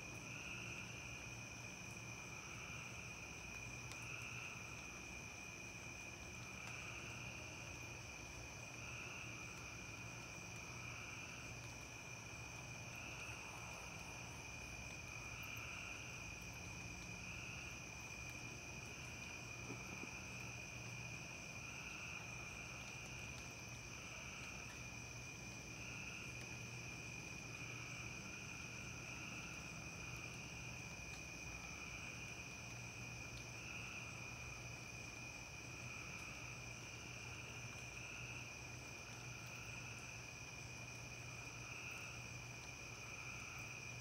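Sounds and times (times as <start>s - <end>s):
insects trilling: 0.1s - 44.0s.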